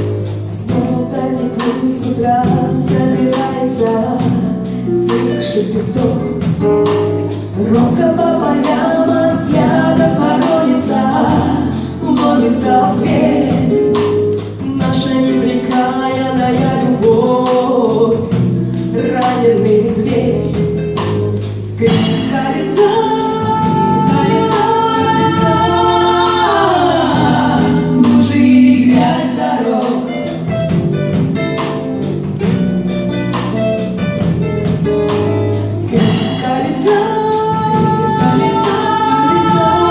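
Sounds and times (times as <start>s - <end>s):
live band playing: 0.0s - 39.9s
women singing pop song: 0.4s - 20.8s, 21.6s - 30.5s, 35.7s - 39.9s.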